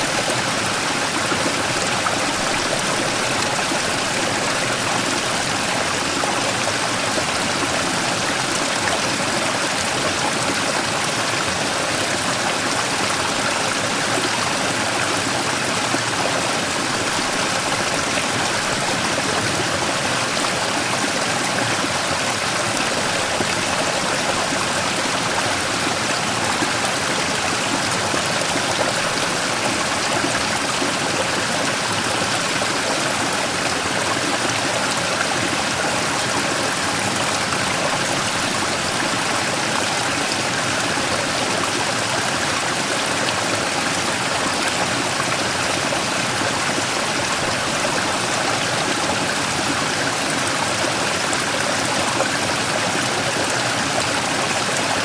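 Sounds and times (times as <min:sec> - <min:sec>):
stream rushing over rock: 0:00.0 - 0:55.0.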